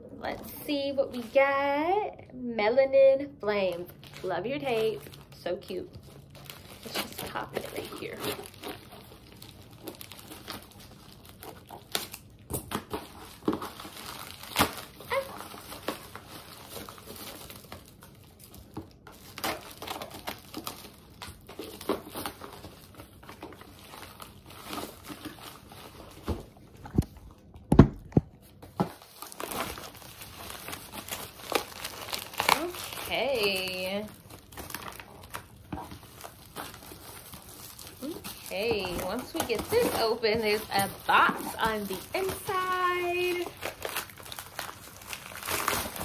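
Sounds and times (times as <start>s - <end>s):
wrapping crinkling and rustling: 0.2s - 2.2s, 3.0s - 46.0s.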